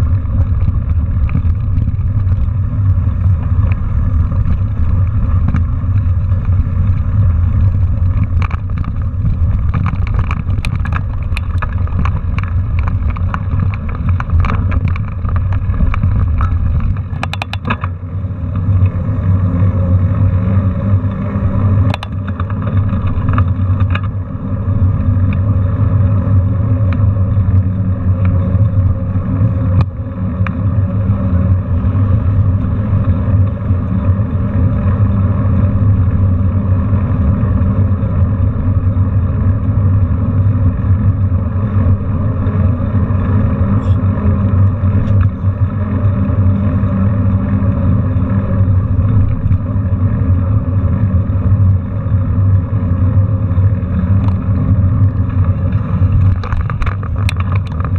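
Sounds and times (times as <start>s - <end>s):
bike rattling and clicking: 0.0s - 57.9s
tyres rumbling: 0.0s - 57.9s
wind buffeting camera: 0.0s - 57.9s.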